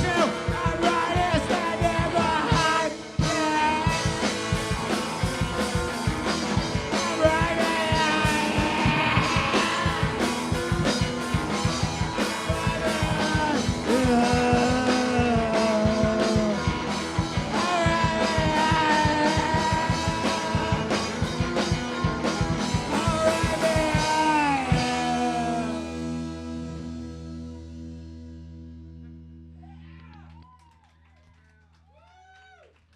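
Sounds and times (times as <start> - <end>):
live rock band playing: 0.0 - 29.2.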